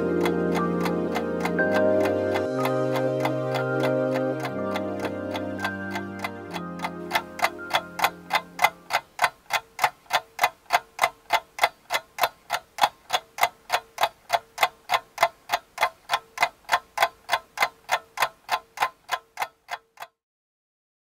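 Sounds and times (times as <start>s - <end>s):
alarm clock ticking: 0.0s - 20.2s.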